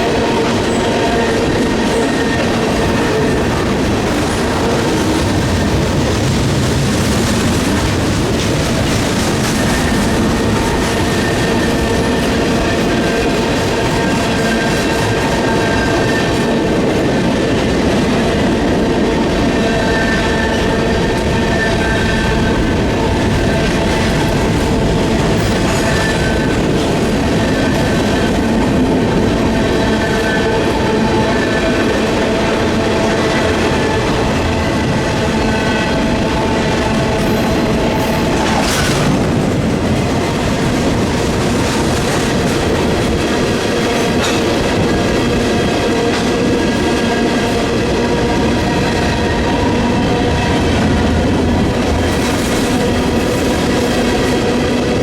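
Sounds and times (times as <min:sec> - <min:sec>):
train wheels clacking over rail: 0:00.0 - 0:55.0.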